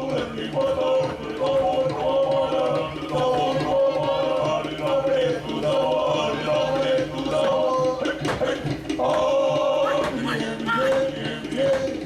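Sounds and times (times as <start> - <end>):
group singing a chant: 0.0 - 12.0
percussive strikes: 0.0 - 12.0.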